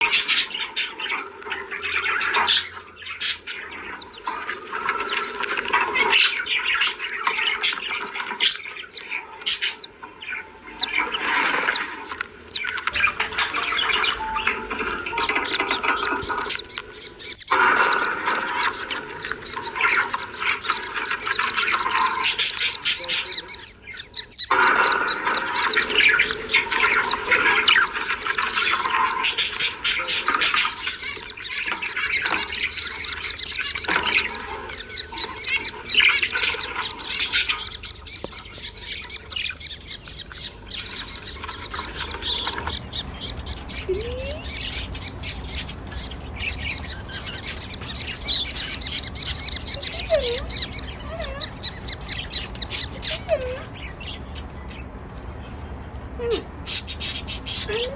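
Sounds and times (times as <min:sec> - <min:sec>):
budgerigars chirping and chattering: 0:00.0 - 0:57.9.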